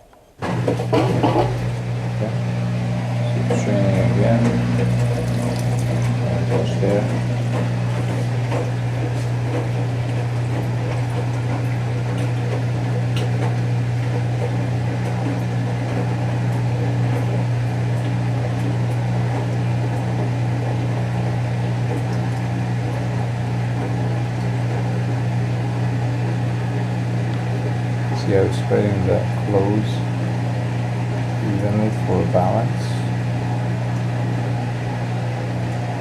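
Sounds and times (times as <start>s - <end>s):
washer drain pump hum: 0.0s - 36.0s
washing machine drum turning: 0.0s - 36.0s.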